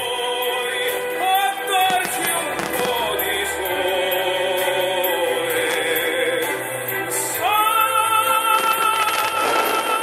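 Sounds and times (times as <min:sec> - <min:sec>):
music: 0:00.0 - 0:10.0
person singing long notes: 0:00.0 - 0:10.0.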